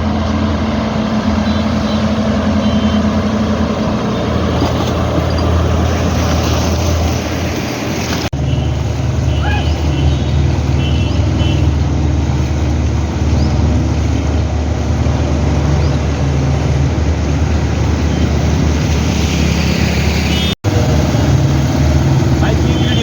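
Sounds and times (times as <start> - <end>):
traffic noise: 0.0 - 23.0
vehicle engine running: 0.0 - 23.0.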